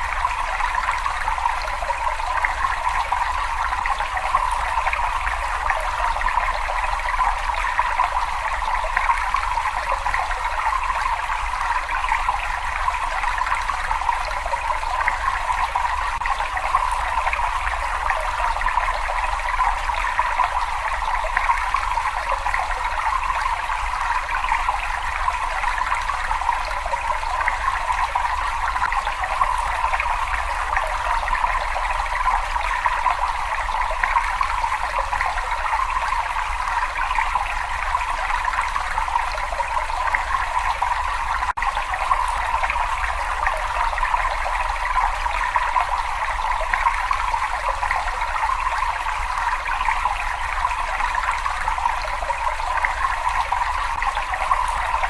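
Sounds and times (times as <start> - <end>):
trickling running water: 0.0 - 55.0.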